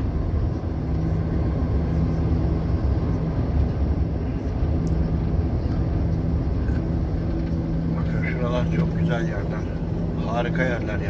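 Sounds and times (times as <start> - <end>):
road rumble: 0.0 - 11.0
truck engine hum: 0.0 - 11.0.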